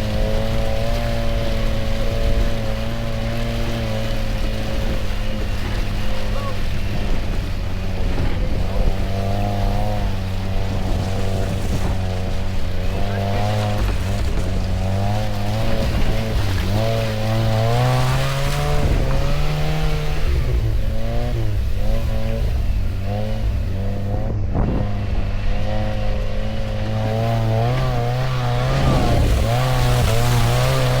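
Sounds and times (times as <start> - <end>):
car engine revving hard: 0.0 - 31.0.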